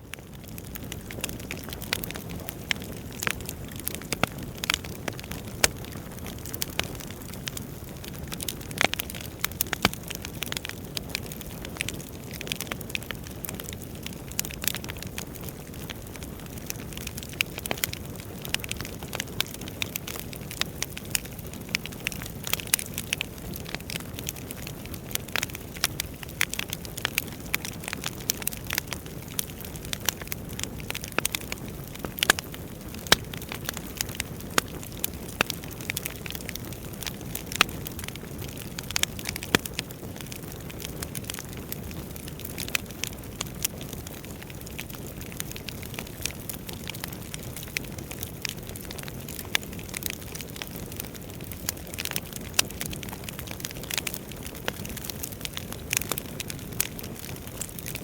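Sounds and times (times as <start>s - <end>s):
wood fire crackling: 0.1s - 58.0s.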